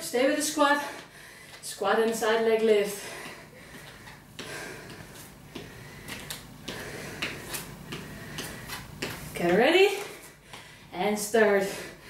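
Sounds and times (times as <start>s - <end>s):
woman breathing heavily: 0.5s - 12.0s.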